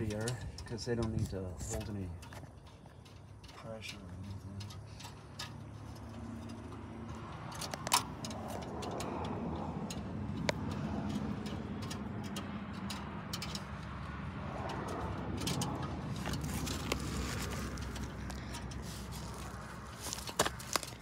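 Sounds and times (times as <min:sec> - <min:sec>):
hand tool clicking on metal: 0:00.0 - 0:21.0
motor vehicle noise: 0:00.0 - 0:21.0.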